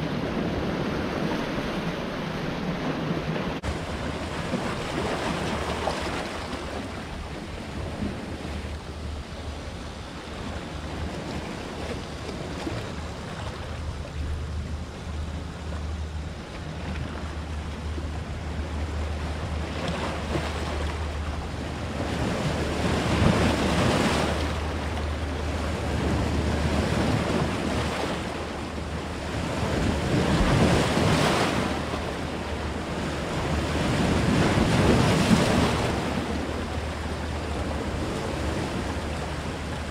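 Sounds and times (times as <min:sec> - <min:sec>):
waves breaking over rocks: 0:00.0 - 0:14.8, 0:18.7 - 0:39.9
wind rumble on microphone: 0:00.0 - 0:39.9.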